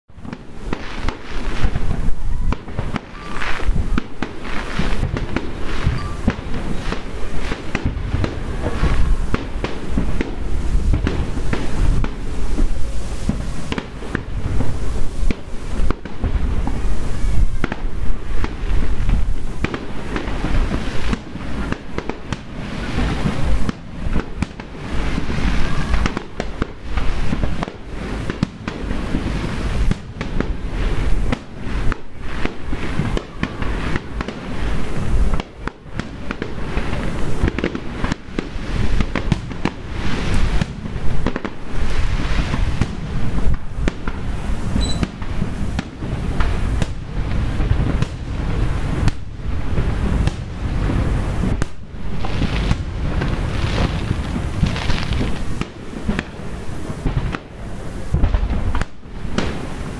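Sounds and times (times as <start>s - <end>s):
fireworks bangs: 0.1s - 59.9s.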